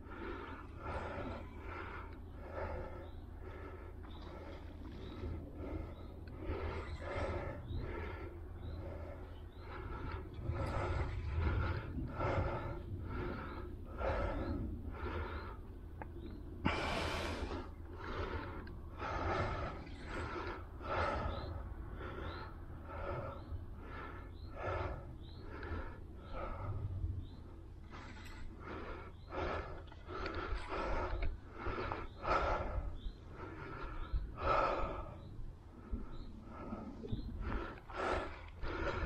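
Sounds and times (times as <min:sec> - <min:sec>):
person breathing heavily: 0:00.0 - 0:39.0.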